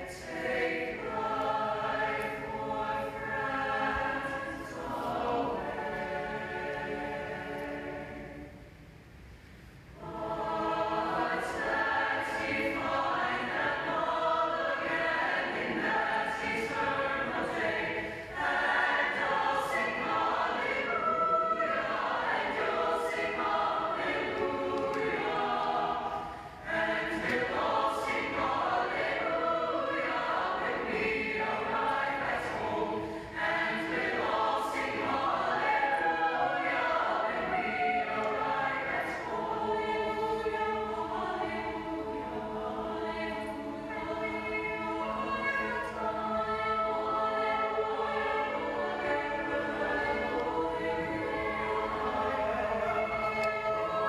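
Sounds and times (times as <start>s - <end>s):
choir singing in harmony: 0.0s - 8.8s, 10.0s - 54.0s.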